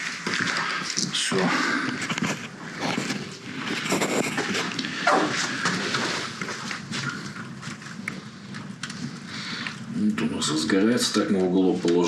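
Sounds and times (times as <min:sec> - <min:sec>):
kindling fire crackling: 0:00.0 - 0:12.0.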